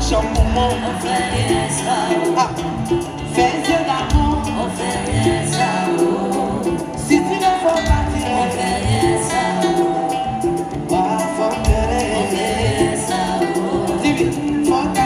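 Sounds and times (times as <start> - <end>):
live band with guitars: 0.0 - 15.0
woman singing into microphone: 0.0 - 15.0.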